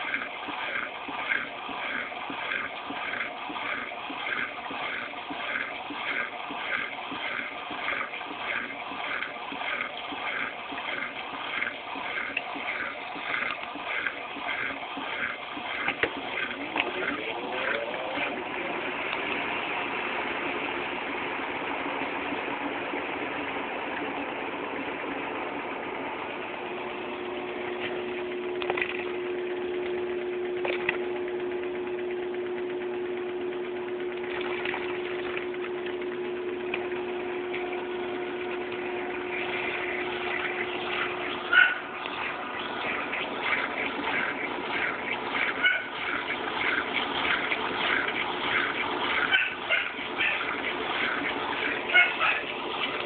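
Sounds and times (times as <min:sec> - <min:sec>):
steady whine: 0:00.0 - 0:53.0
washing machine spinning: 0:00.0 - 0:53.0.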